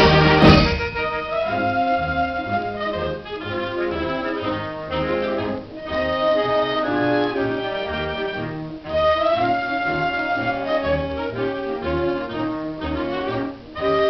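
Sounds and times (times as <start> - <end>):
held brass chords: 0.0 - 14.0
wind band playing: 0.0 - 14.0.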